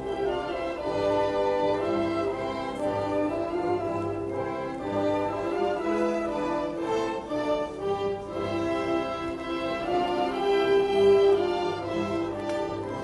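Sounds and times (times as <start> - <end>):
orchestral music over loudspeaker: 0.0 - 13.0.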